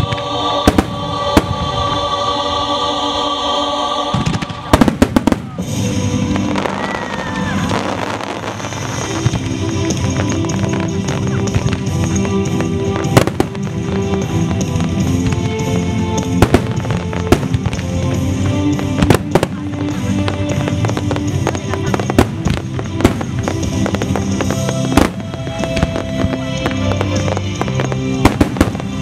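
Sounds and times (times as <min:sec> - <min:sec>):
fireworks bangs: 0:00.0 - 0:02.3, 0:04.1 - 0:29.0
music with long held notes: 0:00.0 - 0:29.0.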